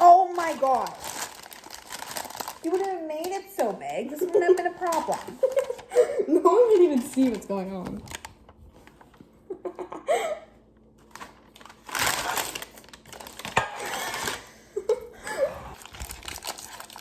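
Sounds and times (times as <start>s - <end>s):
paper rustling and crinkling: 0.0s - 9.4s, 11.0s - 14.5s, 15.8s - 17.0s.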